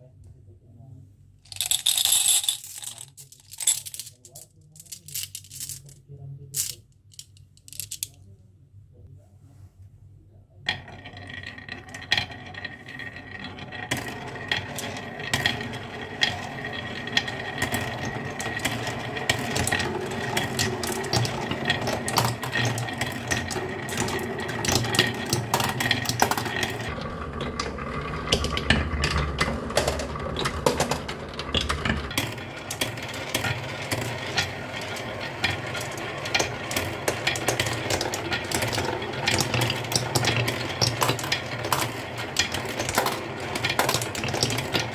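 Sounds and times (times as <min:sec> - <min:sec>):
marbles clattering down a track: 0:01.5 - 0:06.0, 0:10.7 - 0:44.9.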